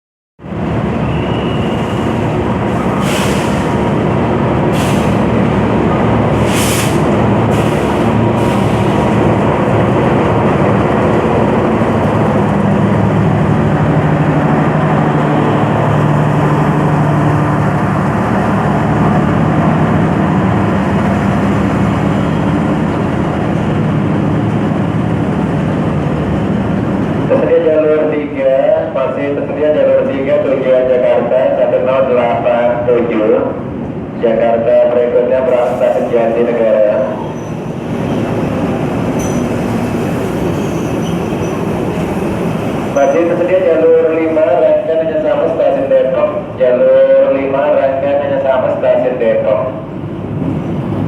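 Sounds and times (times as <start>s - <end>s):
train wheels rumbling on rails: 0.4s - 31.4s, 35.3s - 51.0s.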